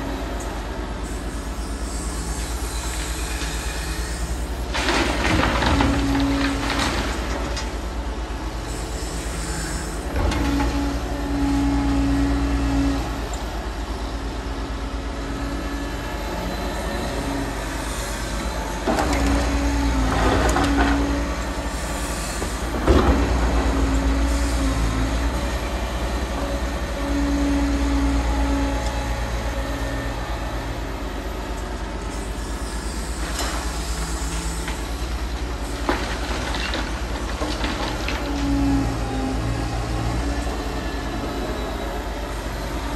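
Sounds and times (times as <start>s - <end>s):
excavator diesel engine and hydraulics: 0.0s - 42.9s.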